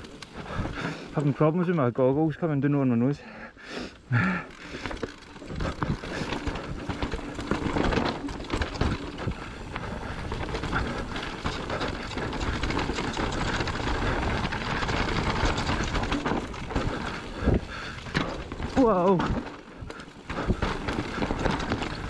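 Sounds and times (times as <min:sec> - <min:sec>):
bike rattling: 0:00.0 - 0:02.1, 0:04.0 - 0:22.0
bike tyres on dirt and stones: 0:00.0 - 0:22.0.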